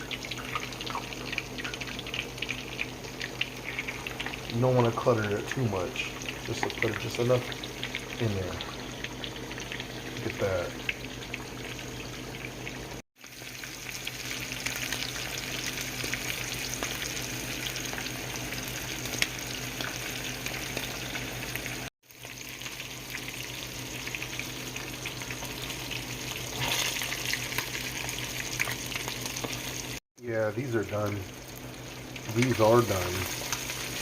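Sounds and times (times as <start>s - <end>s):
fish deep-frying in oil: 0.0s - 34.0s.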